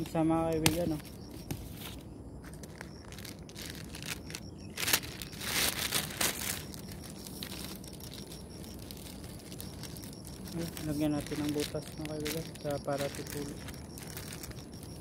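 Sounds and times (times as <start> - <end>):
plastic sheeting crinkling: 1.8 - 15.0.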